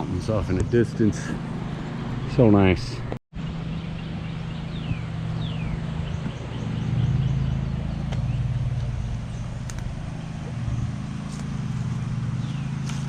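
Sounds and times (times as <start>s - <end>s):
lawn mower engine droning: 0.0s - 13.0s.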